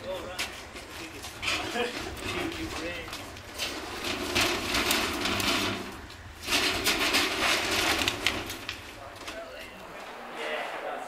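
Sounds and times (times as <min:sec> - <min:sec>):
metal doors rattling and scraping: 0:00.1 - 0:11.0.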